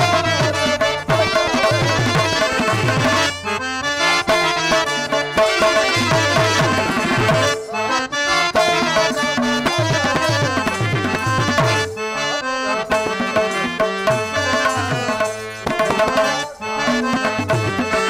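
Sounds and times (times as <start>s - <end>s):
harmonium melody: 0.0s - 18.0s
tabla strokes: 0.0s - 18.0s.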